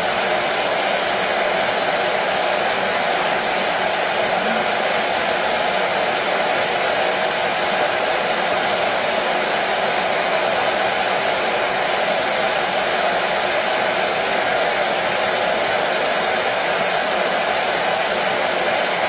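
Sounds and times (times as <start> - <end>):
washing machine whirring: 0.0 - 19.0.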